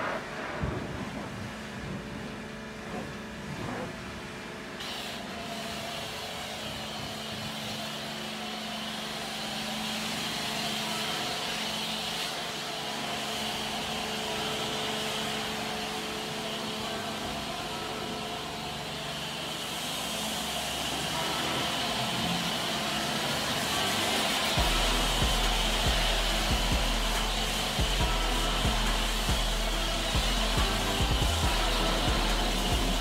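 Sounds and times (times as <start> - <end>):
pump motor hum: 0.0 - 33.0
hiss of water spray: 4.8 - 33.0.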